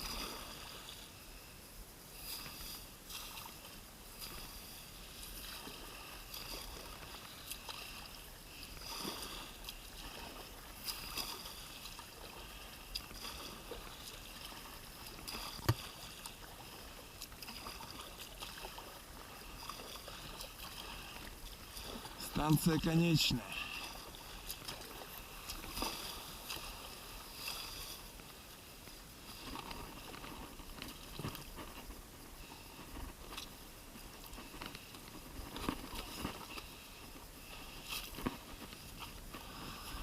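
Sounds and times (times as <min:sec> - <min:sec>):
kayak paddle strokes: 0:00.0 - 0:40.0
water sounds: 0:00.0 - 0:40.0.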